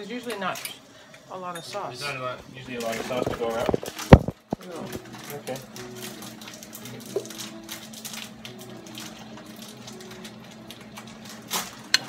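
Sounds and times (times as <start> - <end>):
water boiling in a pot: 0.0 - 12.0.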